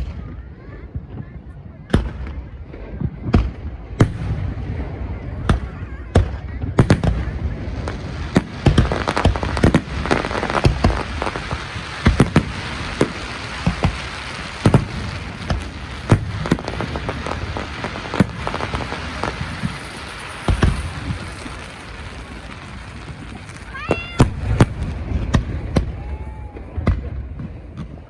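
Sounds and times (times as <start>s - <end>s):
fireworks bangs: 0.0s - 28.0s
fireworks crackle: 0.0s - 28.0s.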